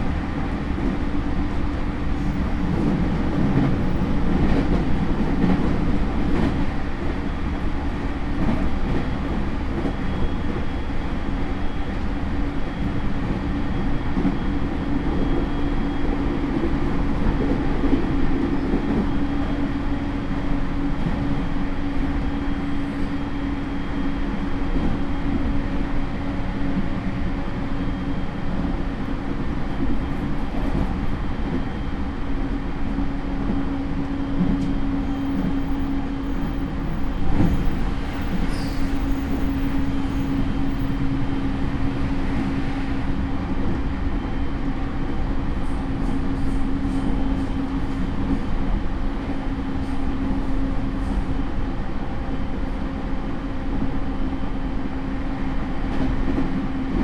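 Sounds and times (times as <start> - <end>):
train wheel and rail rumble: 0.0 - 57.0.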